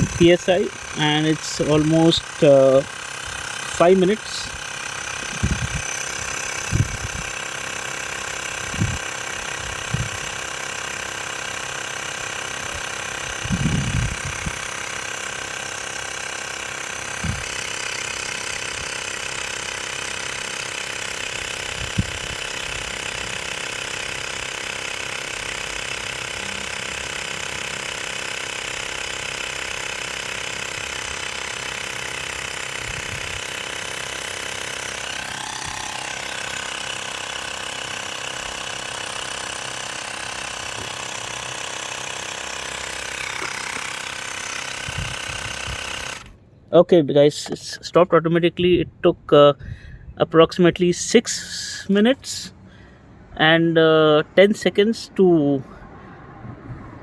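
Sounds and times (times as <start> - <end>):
electric air compressor running: 0.0 - 46.5, 49.6 - 57.0.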